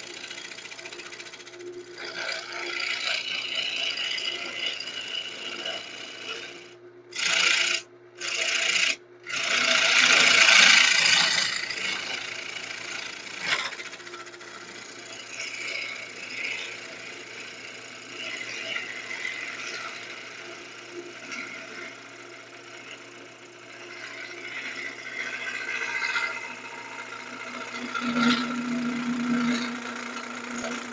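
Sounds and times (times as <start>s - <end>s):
lathe hum: 0.0s - 30.9s
lathe tool cutting wood: 0.0s - 30.9s.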